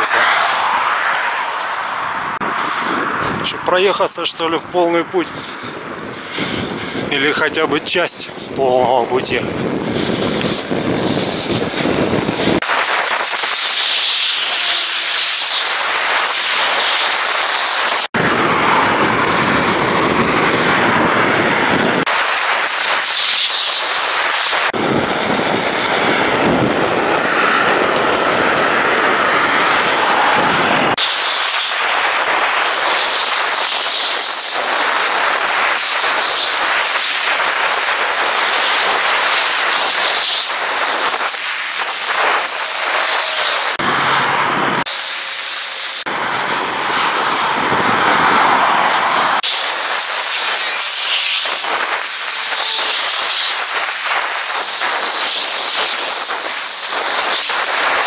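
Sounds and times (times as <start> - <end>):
wind on microphone: 0.0 - 45.0, 46.0 - 58.0
traffic tyre noise: 0.0 - 58.0.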